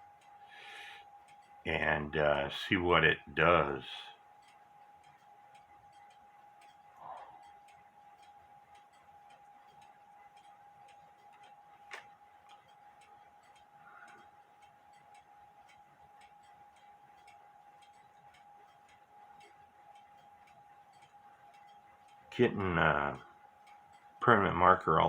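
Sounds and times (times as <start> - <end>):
faint high hum: 0.0 - 25.0
mechanical clock ticking: 0.0 - 25.0.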